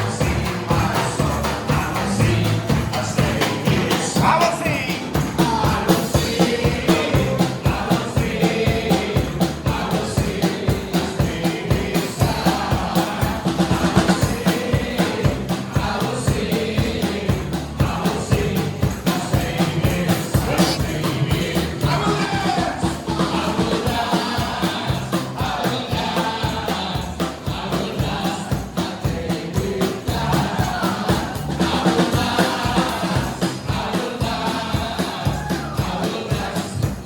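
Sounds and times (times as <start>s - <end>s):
band playing driving beat: 0.0s - 37.0s
group of voices singing: 0.0s - 37.0s.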